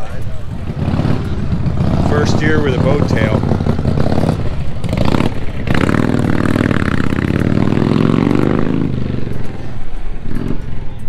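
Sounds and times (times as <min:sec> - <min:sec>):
small motorcycle engine passing: 0:00.0 - 0:11.0.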